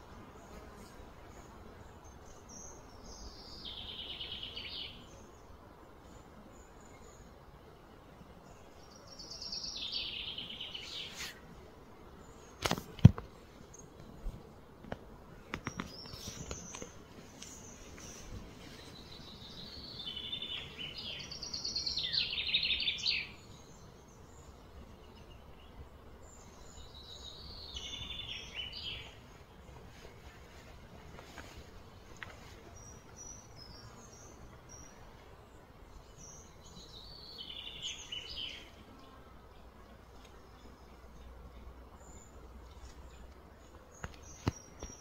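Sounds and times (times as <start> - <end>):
birds singing trills: 0.4 - 7.4, 8.4 - 11.4, 15.5 - 30.0, 31.2 - 45.0.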